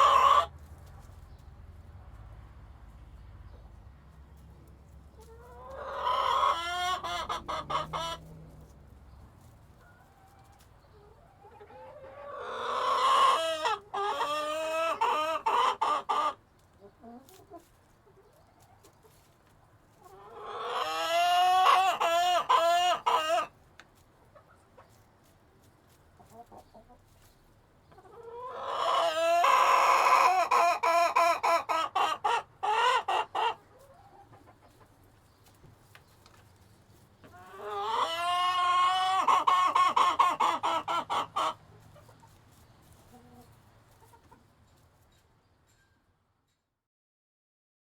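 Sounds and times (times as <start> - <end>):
chickens clucking and calling: 0.0 - 45.8.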